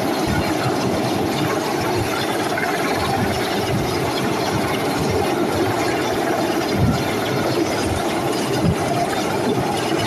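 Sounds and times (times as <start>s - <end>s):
helicopter hovering: 0.0s - 10.0s.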